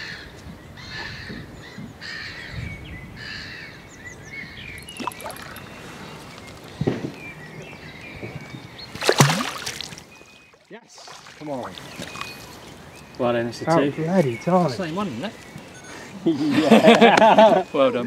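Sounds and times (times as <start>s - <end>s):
small birds chirping: 0.7s - 16.4s.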